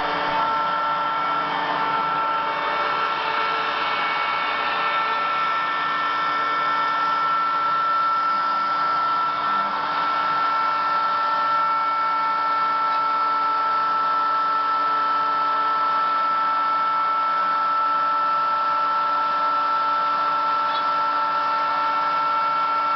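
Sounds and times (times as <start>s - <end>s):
machine motor whine: 0.0s - 22.9s.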